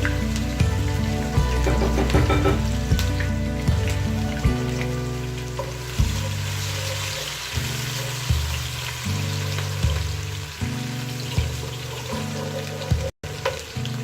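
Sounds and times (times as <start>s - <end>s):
background music with bass: 0.0s - 14.0s
food sizzling in a pot: 0.0s - 14.0s.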